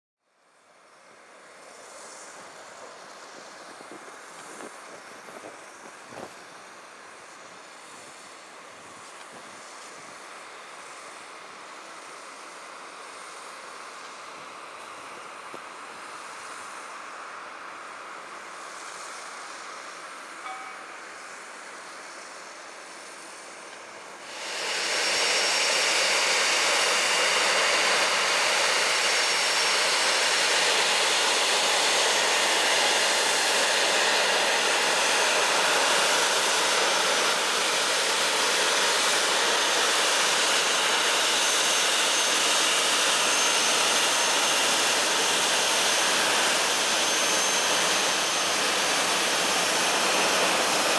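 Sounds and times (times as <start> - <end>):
high-pitched engine whine: 0.3 - 50.9
jet engines running: 0.8 - 50.9.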